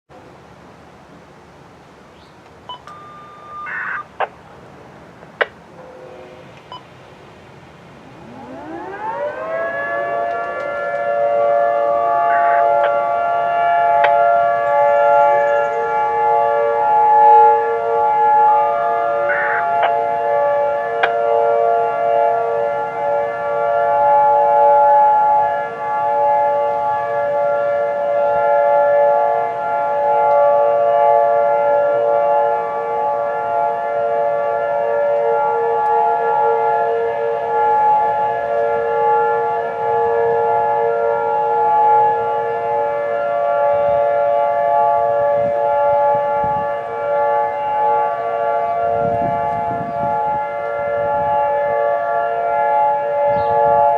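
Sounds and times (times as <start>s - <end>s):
warning sirens steady tone: 0.1s - 53.9s.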